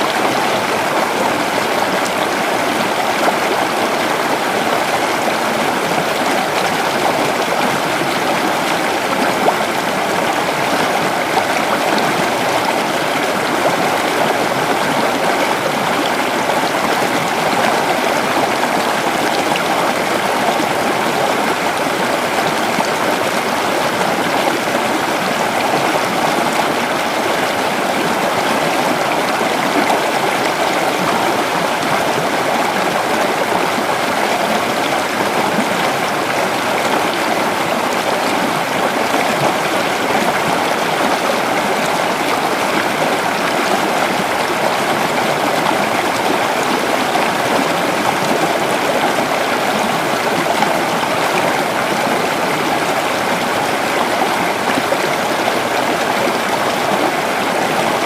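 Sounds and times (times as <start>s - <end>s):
creek water babbling over stones: 0.0s - 58.0s.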